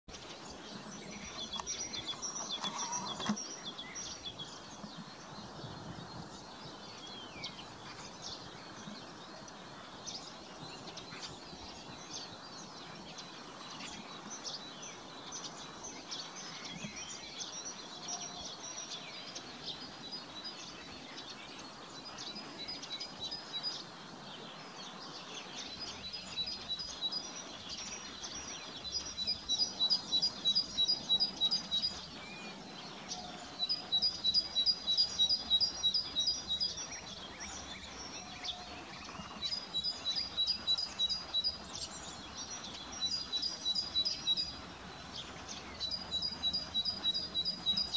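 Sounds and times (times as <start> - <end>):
other birds chirping: 0.1 - 47.9.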